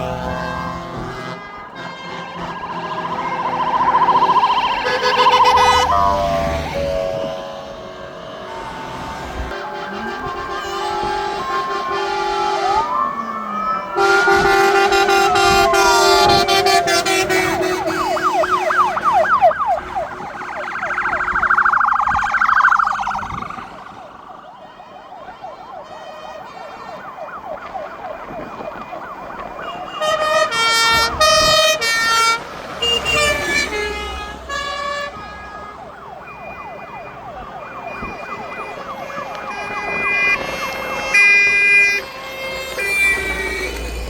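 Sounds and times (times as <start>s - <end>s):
fire engine sirens: 0.0s - 44.0s.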